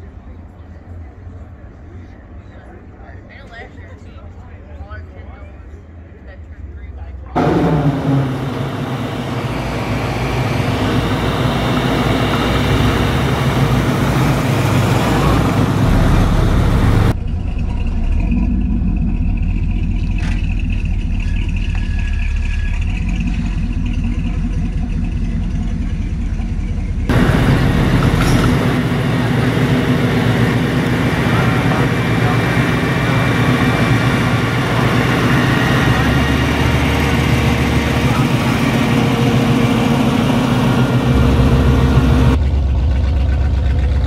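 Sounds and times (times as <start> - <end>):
cars driving slowly past: 7.4 - 44.0.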